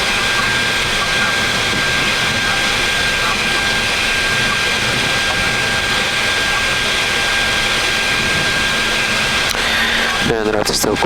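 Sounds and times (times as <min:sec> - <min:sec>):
jet engine and airflow noise: 0:00.0 - 0:11.0.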